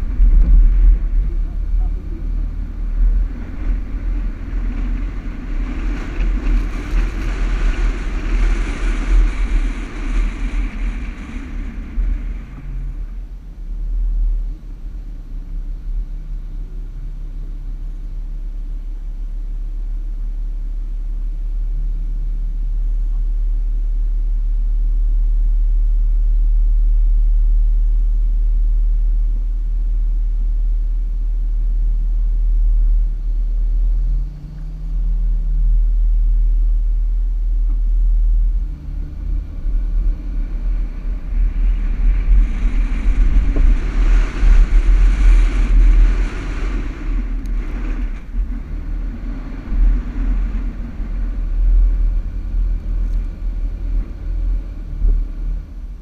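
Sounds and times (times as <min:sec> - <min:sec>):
vehicle rumbling over sand: 0:00.0 - 0:56.0.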